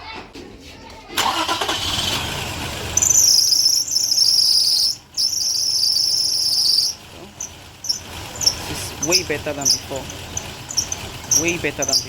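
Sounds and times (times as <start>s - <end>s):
car engine rough idle: 1.2s - 12.0s.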